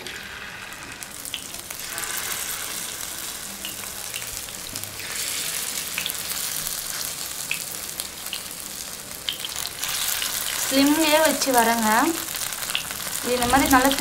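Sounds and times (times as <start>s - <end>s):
eggs sizzling in hot oil: 0.0s - 14.0s
oil crackling and popping: 0.0s - 14.0s.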